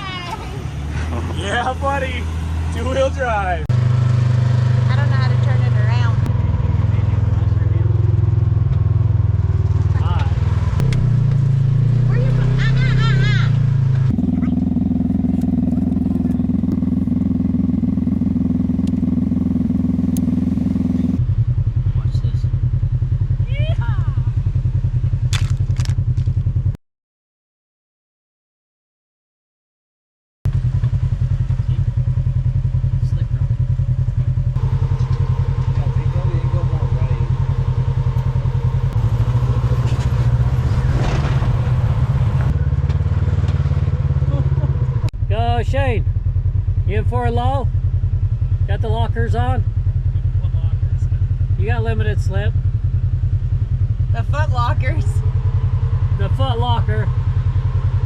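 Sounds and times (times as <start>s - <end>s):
vehicle engine droning: 0.0s - 26.8s, 30.5s - 58.0s.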